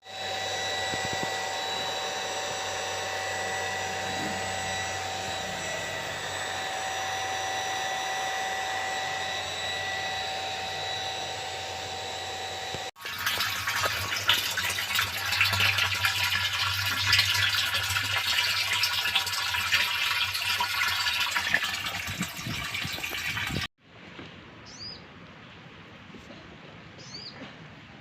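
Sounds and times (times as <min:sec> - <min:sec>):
electric water pump whining: 0:00.0 - 0:23.7.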